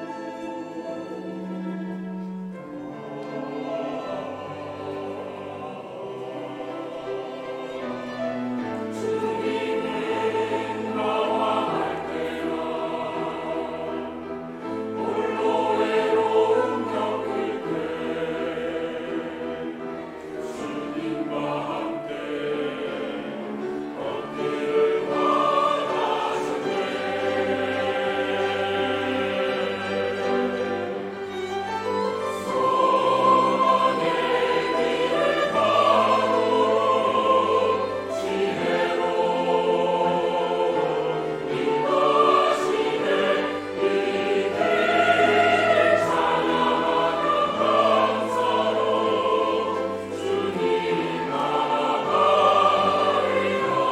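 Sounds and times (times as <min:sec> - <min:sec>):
choir singing: 0:00.0 - 0:53.9.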